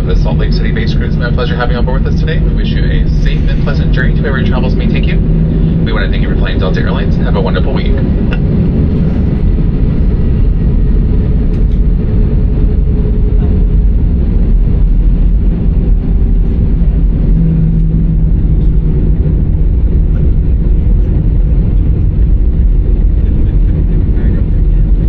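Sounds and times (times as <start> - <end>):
airplane cabin rumble: 0.0 - 25.0
low hum: 0.0 - 25.0.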